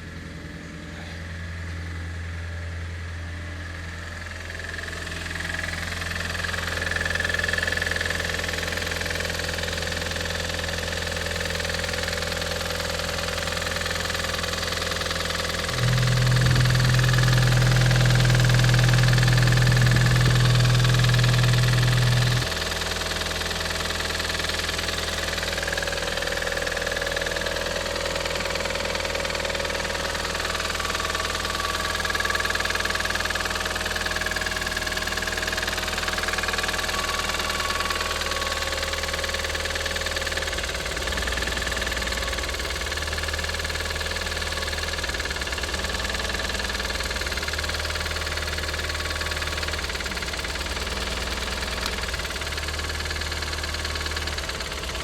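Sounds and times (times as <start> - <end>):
car engine idling with knock: 4.2 - 55.0.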